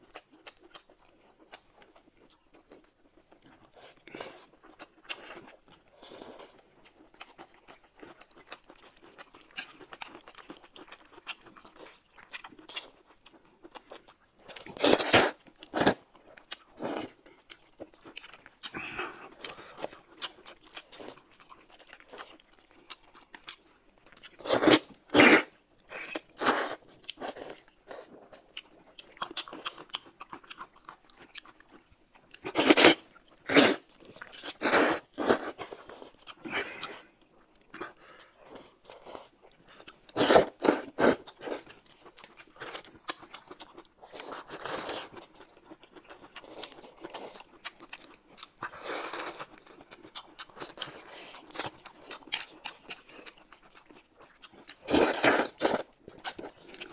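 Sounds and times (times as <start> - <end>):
open-mouth chewing: 0.0 - 56.9.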